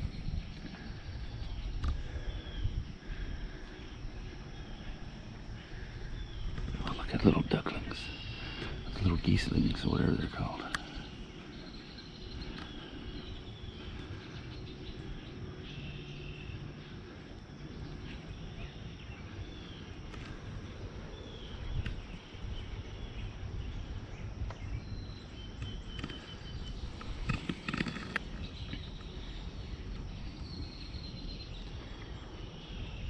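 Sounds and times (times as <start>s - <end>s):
birds chirping and peeping: 0.0s - 33.0s
steady low rumble: 0.0s - 33.0s.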